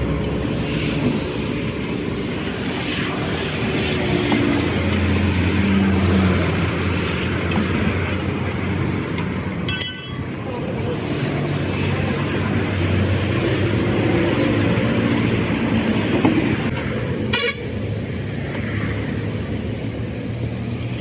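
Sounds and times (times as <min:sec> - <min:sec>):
steady engine drone: 0:00.0 - 0:21.0.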